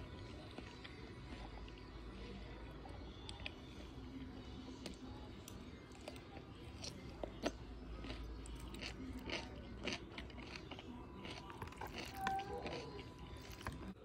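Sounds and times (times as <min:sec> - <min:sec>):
person chewing: 0:00.1 - 0:02.5, 0:03.2 - 0:14.0.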